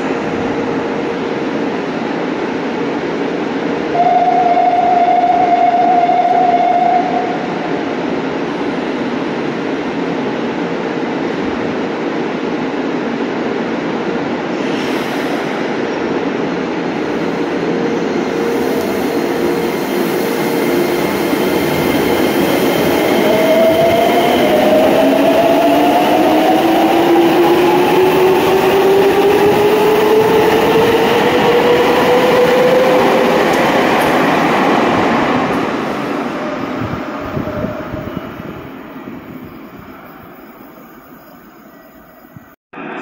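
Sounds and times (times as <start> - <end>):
subway train rumble: 0.0 - 43.0.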